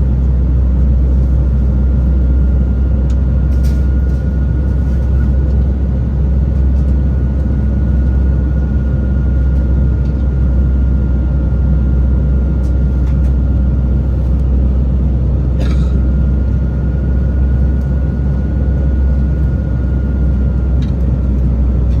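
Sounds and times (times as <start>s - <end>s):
aircraft engines and airflow rumbling: 0.0s - 22.0s.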